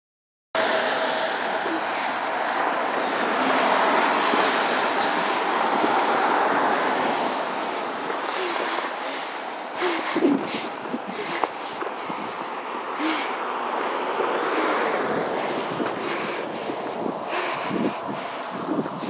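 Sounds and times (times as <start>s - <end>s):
blizzard wind blowing: 0.6s - 19.0s.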